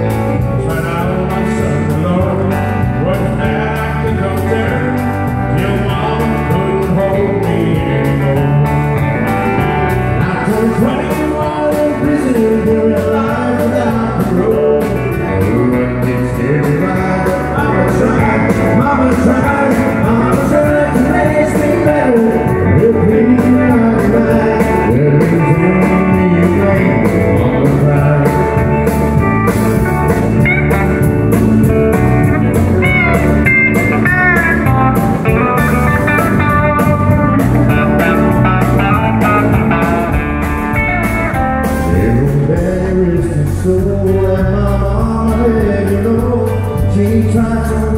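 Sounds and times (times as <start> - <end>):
man singing: 0.0 - 29.6, 32.5 - 47.9
electric guitar lead lines: 0.0 - 47.9
live country band playing: 0.0 - 47.9.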